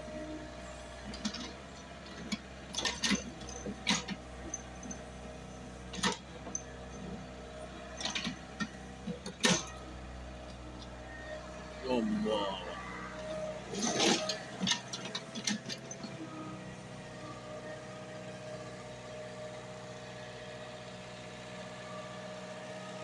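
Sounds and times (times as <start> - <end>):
excavator engine droning: 0.0 - 23.0.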